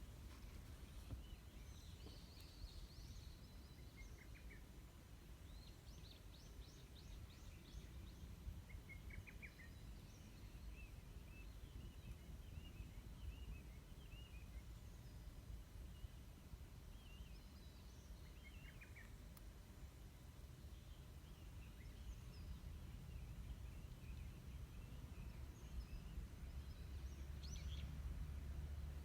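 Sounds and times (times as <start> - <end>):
low steady rumble: 0.0 - 29.0
small birds chirping: 0.0 - 29.0.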